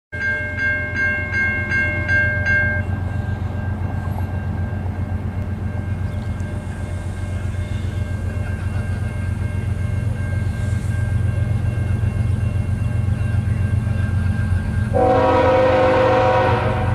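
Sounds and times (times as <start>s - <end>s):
diesel locomotive rumble: 0.4s - 16.9s.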